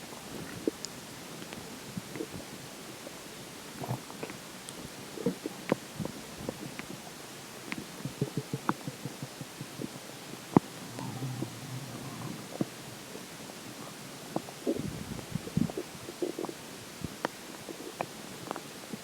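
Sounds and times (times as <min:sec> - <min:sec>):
stomach gurgling: 0:00.1 - 0:19.0.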